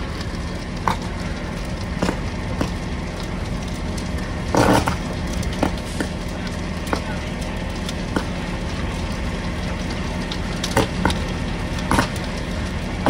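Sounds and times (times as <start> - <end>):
burning wood cracking and popping: 0.0 - 13.0
low rumble: 0.0 - 13.0
rush of flame: 0.0 - 13.0.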